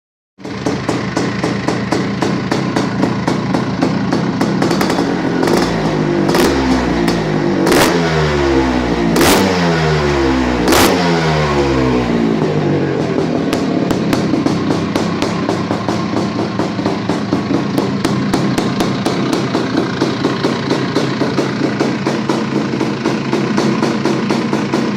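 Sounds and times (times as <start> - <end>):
motorcycle engine idling and revving: 0.4 - 24.9.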